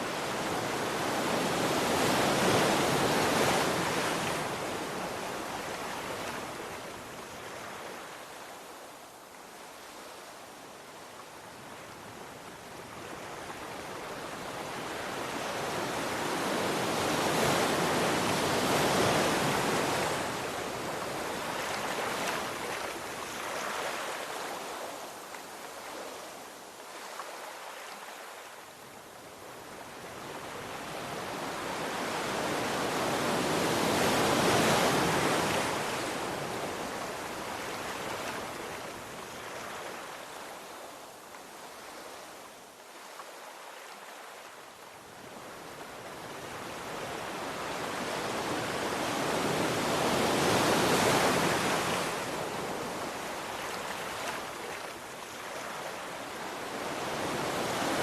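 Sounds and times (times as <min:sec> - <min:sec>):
ocean waves washing onto shore: 0:00.0 - 0:58.0.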